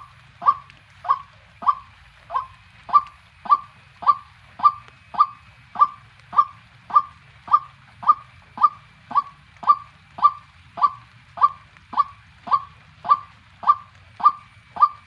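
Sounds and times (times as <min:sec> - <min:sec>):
waterhen calling sharp notes: 0:00.0 - 0:15.0.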